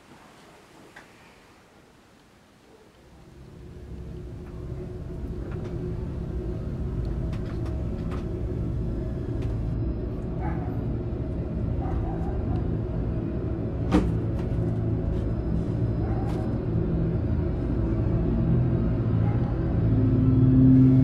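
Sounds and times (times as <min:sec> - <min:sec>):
low rumbling drone: 0:03.0 - 0:21.0.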